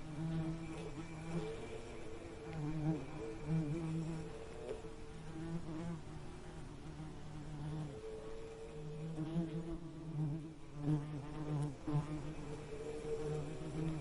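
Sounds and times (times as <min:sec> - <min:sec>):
bees buzzing in flight: 0:00.0 - 0:14.0.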